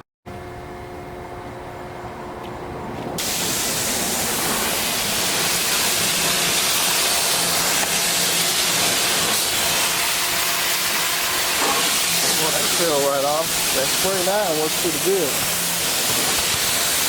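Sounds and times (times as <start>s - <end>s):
water spray hissing on truck: 3.2s - 17.0s.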